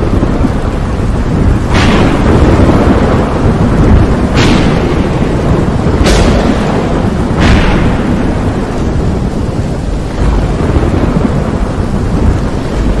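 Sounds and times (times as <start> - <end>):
rain hissing: 0.0 - 13.0
thunderclap with rolling rumble: 0.0 - 13.0.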